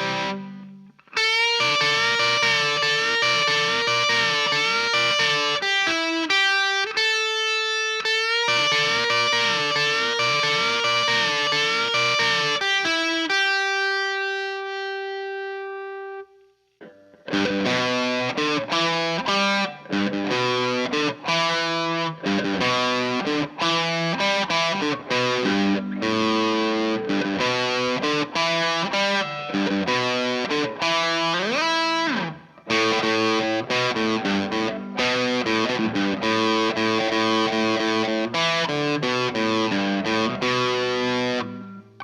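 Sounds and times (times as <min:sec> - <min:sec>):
overdriven electric guitar: 0:00.0 - 0:42.0.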